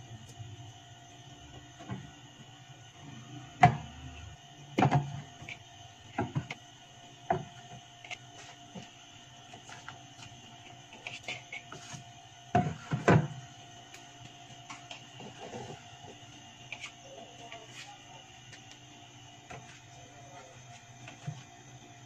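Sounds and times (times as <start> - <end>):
refrigerator hum: 0.0 - 22.0.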